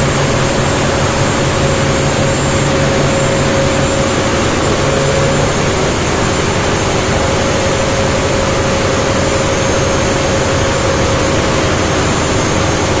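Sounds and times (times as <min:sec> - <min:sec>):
diesel engine droning: 0:00.0 - 0:13.0
steady engine whine: 0:00.0 - 0:13.0.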